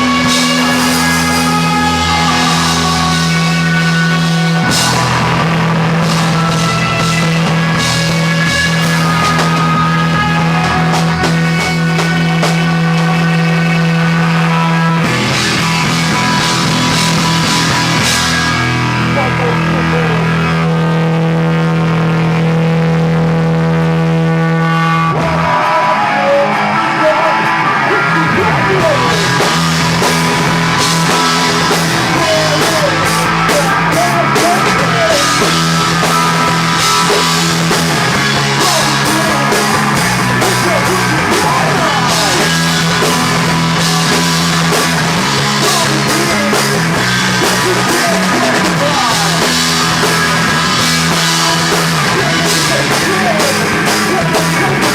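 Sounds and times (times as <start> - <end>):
drums and cymbals: 0.0 - 21.1, 28.7 - 54.9
rock band playing live: 0.0 - 54.9.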